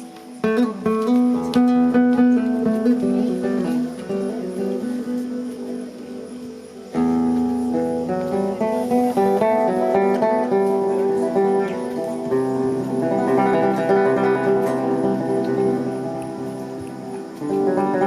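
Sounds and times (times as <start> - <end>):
plucked guitar music: 0.0 - 18.0.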